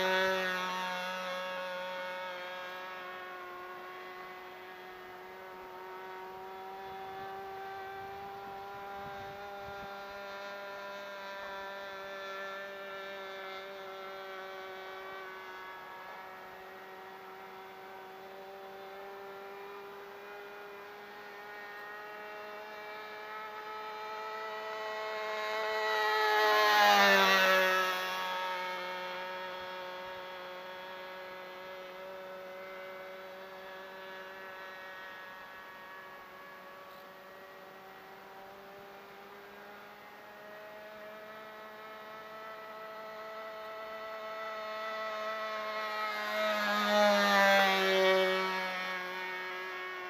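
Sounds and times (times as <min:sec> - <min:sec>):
model airplane engine buzzing: 0:00.0 - 0:50.0.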